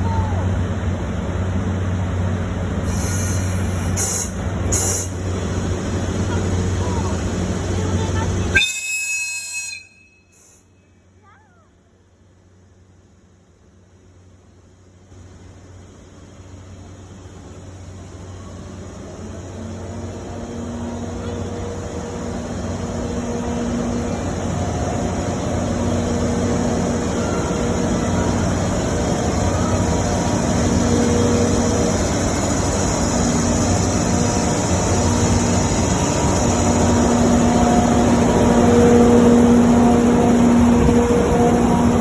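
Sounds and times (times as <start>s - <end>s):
train rumbling with hum: 0.0s - 42.0s.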